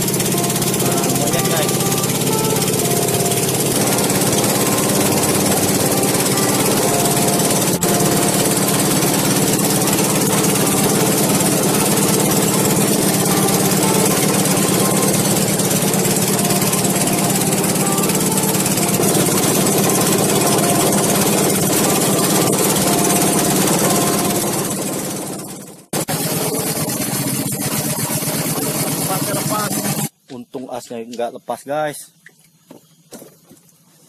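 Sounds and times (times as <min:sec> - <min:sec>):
boat engine chugging: 0:00.0 - 0:34.0.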